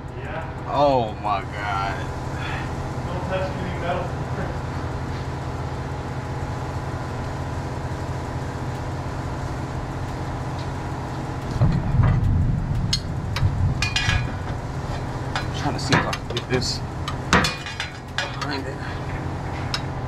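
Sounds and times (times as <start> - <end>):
loud rumble: 0.0 - 20.0
low mechanical hum: 0.0 - 20.0.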